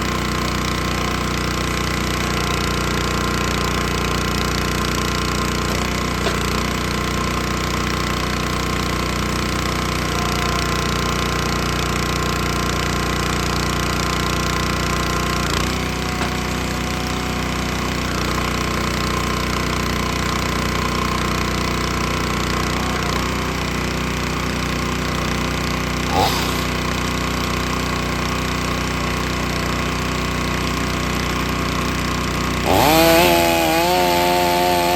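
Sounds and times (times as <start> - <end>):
small gas engine running: 0.0 - 34.9.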